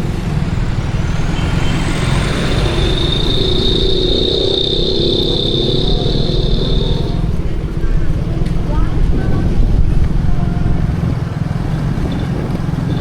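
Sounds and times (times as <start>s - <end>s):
steady high-pitched whine: 0.0s - 11.1s
motorcycle riding: 0.0s - 13.0s
traffic: 0.0s - 13.0s
wind rumbling on microphone: 0.0s - 13.0s.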